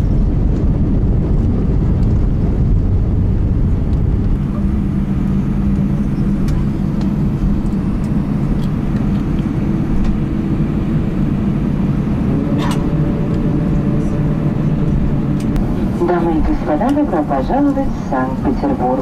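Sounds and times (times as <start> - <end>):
jet engines and wheels rumbling: 0.0 - 19.0.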